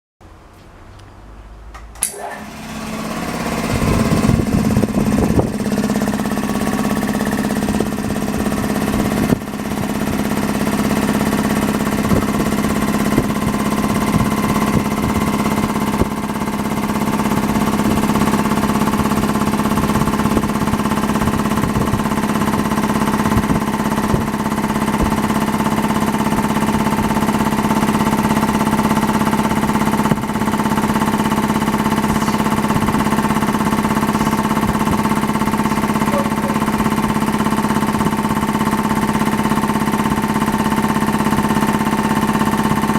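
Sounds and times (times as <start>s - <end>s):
air compressor running: 1.8s - 42.9s.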